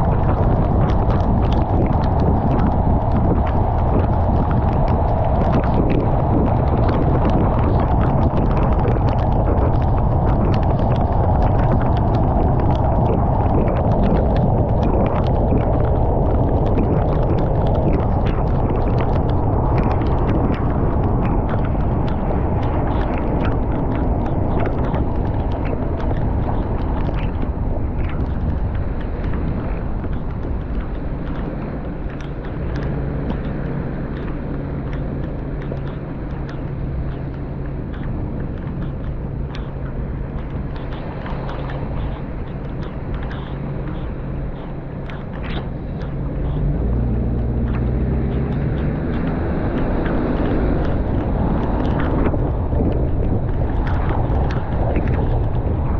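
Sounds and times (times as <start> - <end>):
tyres spraying on flooded road: 0.0 - 55.8
heavy rain drumming on car: 0.0 - 55.9
low car hum: 0.0 - 55.9.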